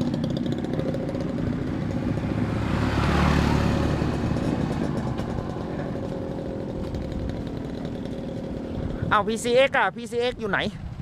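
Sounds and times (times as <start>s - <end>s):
vehicle passing by: 0.0s - 9.2s
motorcycle engine running: 0.0s - 11.0s.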